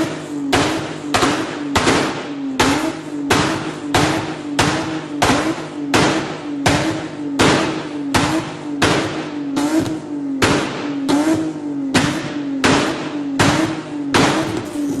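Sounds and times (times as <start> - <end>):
car engine throttle blips: 0.0 - 15.0.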